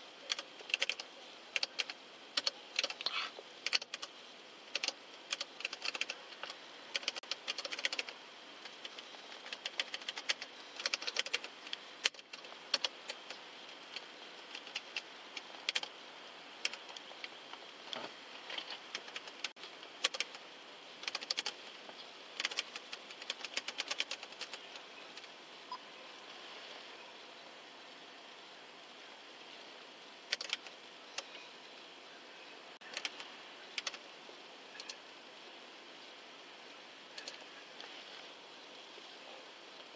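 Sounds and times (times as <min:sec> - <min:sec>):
steady faint hiss: 0:00.0 - 0:39.9.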